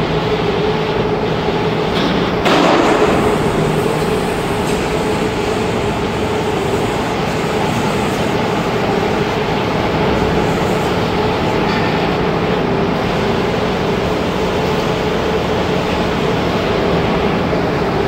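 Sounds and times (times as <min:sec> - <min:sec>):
dryer and blower machine noise: 0:00.0 - 0:18.0.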